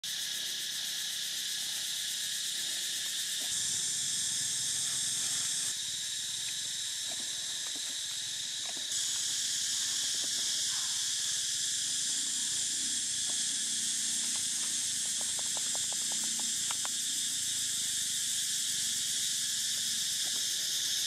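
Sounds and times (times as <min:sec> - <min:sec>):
forest insects droning: 0:00.0 - 0:21.0.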